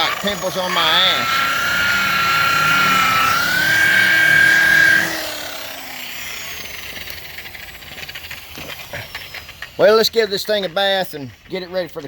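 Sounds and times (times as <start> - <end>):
electric car polisher whining: 0.0 - 10.0.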